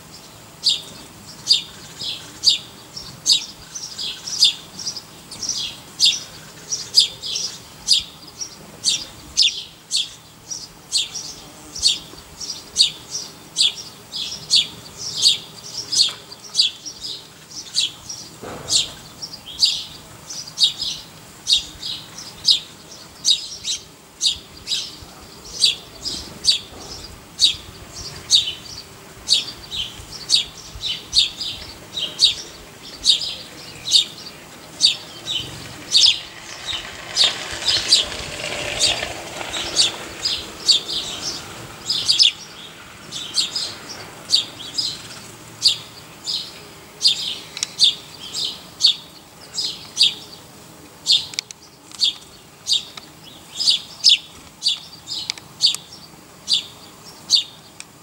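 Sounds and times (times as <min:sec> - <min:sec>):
small bird chirping: 0:00.0 - 0:50.4, 0:51.0 - 0:58.0.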